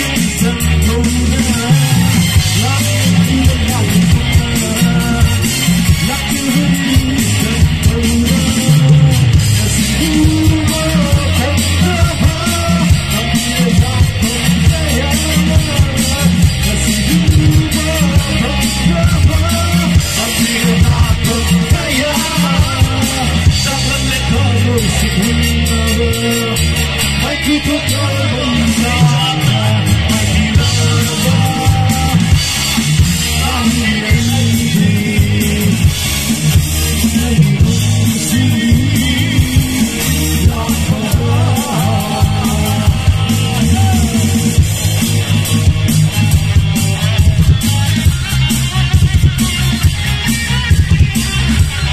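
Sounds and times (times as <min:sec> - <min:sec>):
drum kit: 0:00.0 - 0:51.9
electric bass: 0:00.0 - 0:51.9
keyboard: 0:00.0 - 0:51.9
live rock band playing: 0:00.0 - 0:51.9
man singing: 0:00.0 - 0:51.9.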